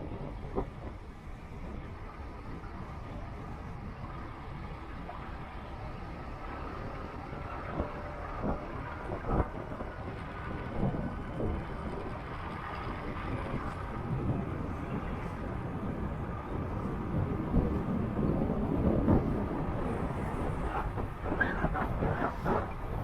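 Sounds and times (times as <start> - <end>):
motorcycle engine and road noise: 0.0 - 23.0
wind on microphone: 0.0 - 23.0.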